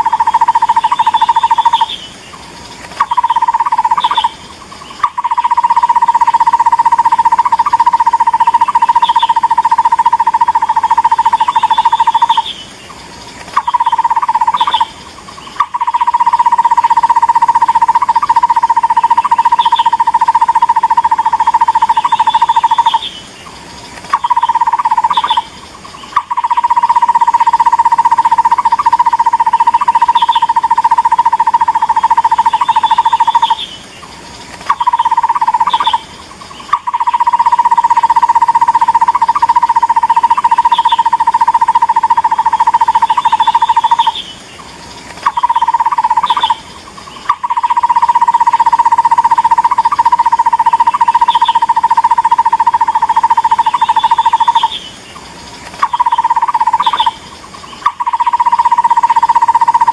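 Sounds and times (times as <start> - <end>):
barbet call rapid pulsed: 0.0 - 2.2, 3.0 - 12.8, 13.6 - 23.2, 24.1 - 33.9, 34.6 - 55.0, 55.8 - 59.9.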